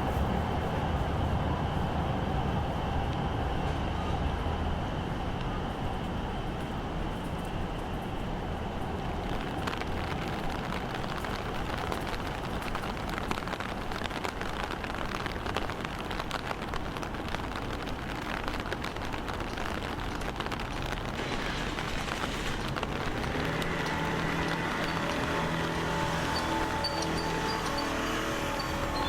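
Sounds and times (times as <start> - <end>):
rain drops ticking: 5.4 - 29.0.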